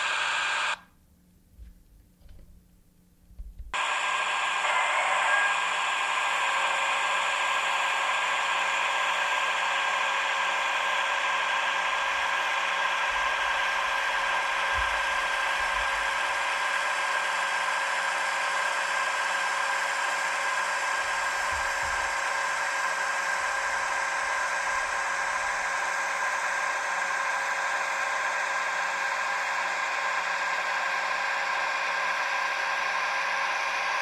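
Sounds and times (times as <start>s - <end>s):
model train motor whirring: 0.0s - 0.8s, 3.8s - 34.0s.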